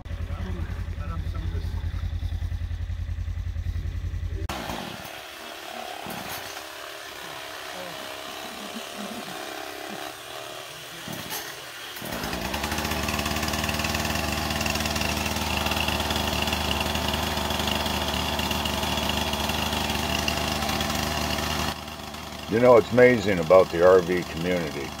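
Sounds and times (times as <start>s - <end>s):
chainsaw running: 0.0s - 25.0s.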